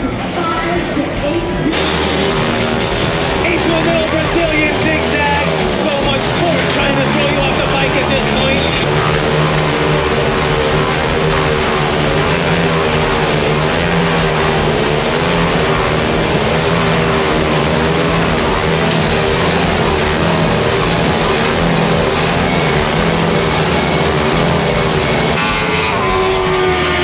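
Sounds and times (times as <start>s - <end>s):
rock music with electric guitar: 0.0s - 27.0s.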